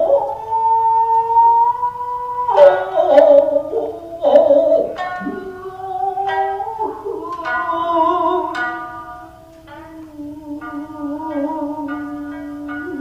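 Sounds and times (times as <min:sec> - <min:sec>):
plucked string instrument: 0:00.0 - 0:13.0
sustained vocal singing: 0:00.0 - 0:13.0.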